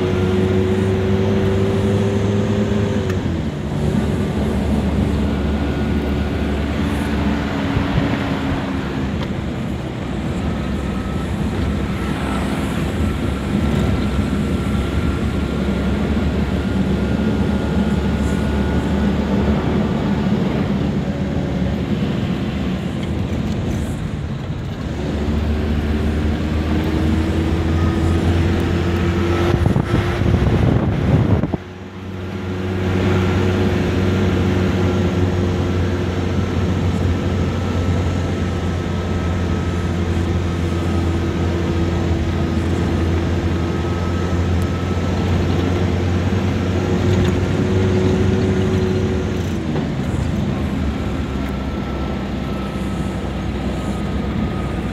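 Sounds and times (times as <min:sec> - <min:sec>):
vehicle engine driving on sand: 0:00.0 - 0:54.9.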